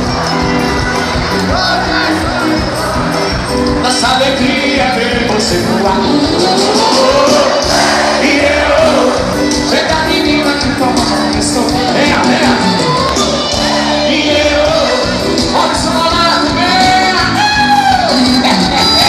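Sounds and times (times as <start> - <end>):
crowd shouting along: 0.0 - 4.1, 5.8 - 19.0
live band music: 0.0 - 19.0
person singing: 1.5 - 19.0.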